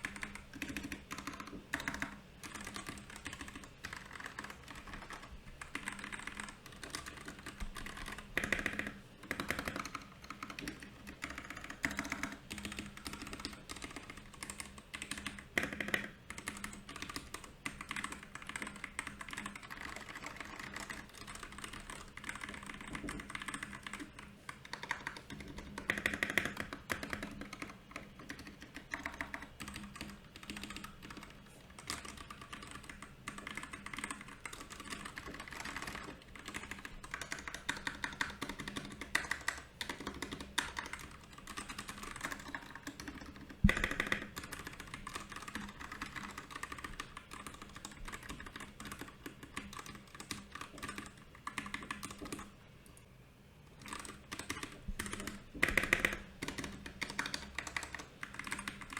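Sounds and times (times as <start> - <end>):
mechanical keyboard typing: 0.0 - 52.5, 53.8 - 58.9.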